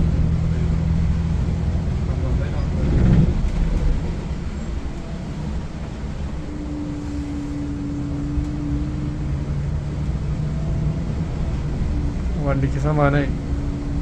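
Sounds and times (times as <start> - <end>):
diesel coach engine rumble: 0.0 - 14.0.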